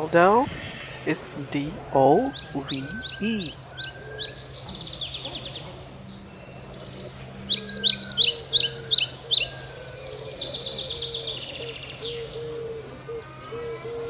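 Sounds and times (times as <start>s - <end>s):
doves cooing: 0.0s - 14.0s
small birds chirping: 0.0s - 14.0s.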